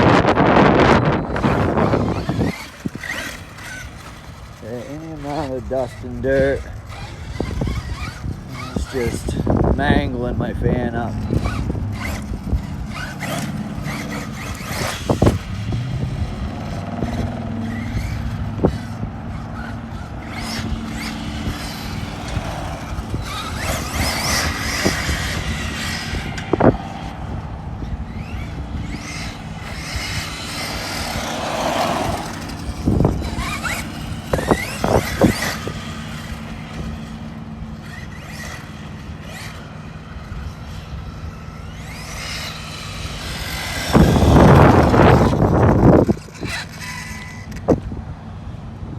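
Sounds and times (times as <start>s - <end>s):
electric motor whine: 0.0s - 48.9s
tyres on dirt: 0.0s - 48.9s.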